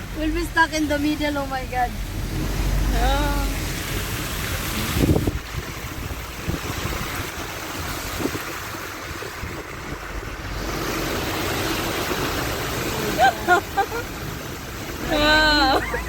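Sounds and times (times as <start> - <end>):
floodwater rushing around car: 0.0 - 16.0
loud water splash: 1.9 - 16.0.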